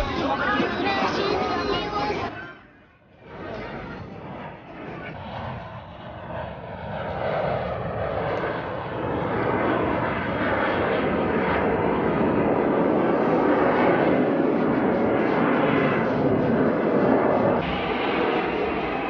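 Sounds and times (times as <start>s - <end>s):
jet engine rushing overhead: 0.0s - 19.0s.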